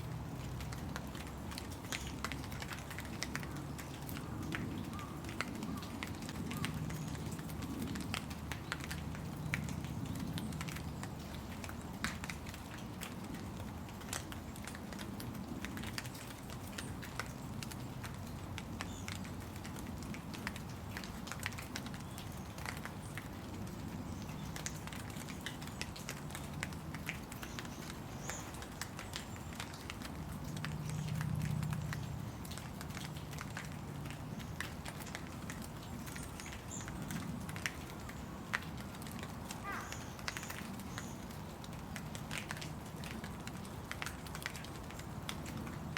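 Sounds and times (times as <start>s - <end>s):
rain drops hitting: 0.0s - 45.9s.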